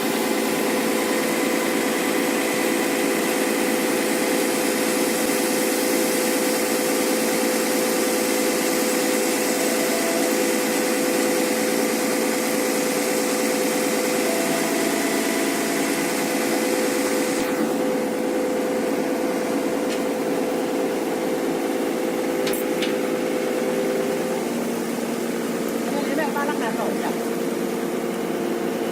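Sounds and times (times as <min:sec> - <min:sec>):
excavator engine droning: 0:00.0 - 0:28.9
hydraulic pump whine: 0:00.0 - 0:28.9.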